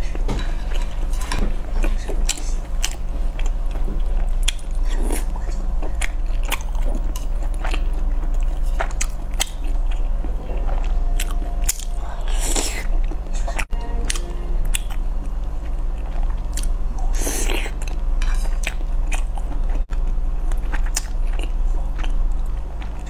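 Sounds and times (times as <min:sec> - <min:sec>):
steady low hum: 0:00.0 - 0:23.0
chewing with mouth clicks: 0:00.7 - 0:23.0.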